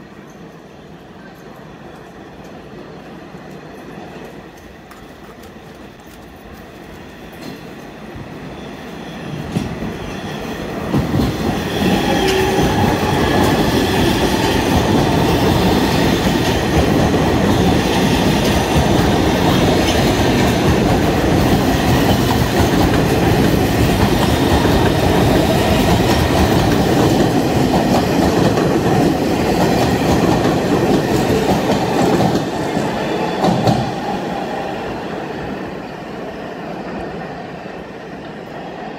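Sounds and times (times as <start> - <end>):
subway train rumbling on track: 0.0 - 38.9.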